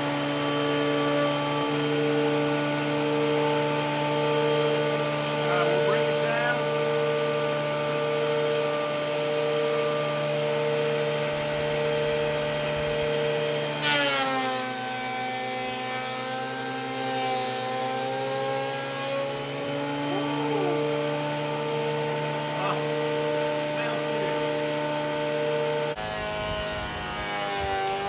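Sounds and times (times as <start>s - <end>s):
planer cutting board: 0.0s - 28.0s
planer motor whine: 0.0s - 28.0s.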